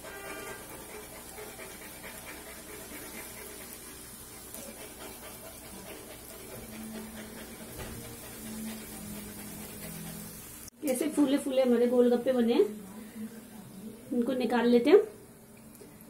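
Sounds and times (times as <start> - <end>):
frying in hot oil sizzling: 0.0 - 16.0.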